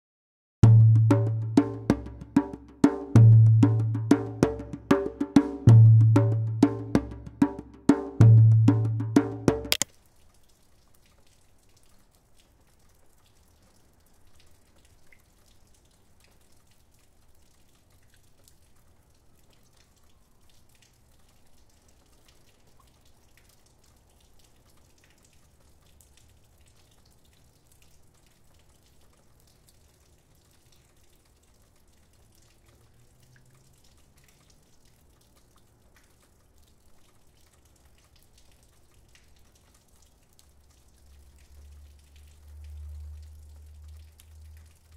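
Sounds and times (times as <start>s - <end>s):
light rain dripping: 0.6s - 44.9s.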